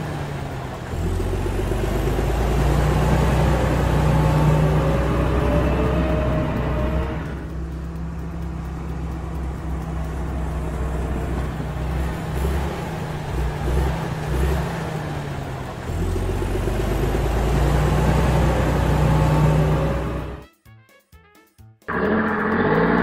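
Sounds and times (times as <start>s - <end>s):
heavy truck engine running: 0.0s - 20.4s, 21.9s - 23.0s.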